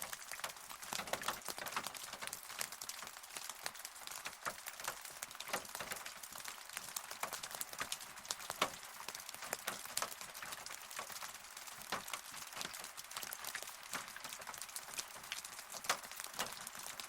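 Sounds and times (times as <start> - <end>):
rain drops tapping: 0.0 - 17.0.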